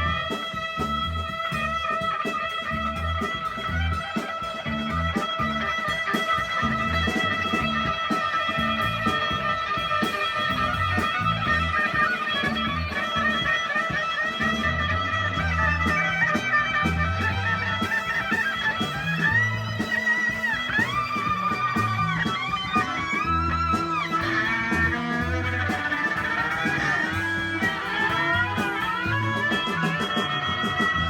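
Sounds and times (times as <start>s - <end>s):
bass guitar: 0.0s - 31.0s
drums: 0.0s - 31.0s
electric guitar lead: 0.0s - 31.0s.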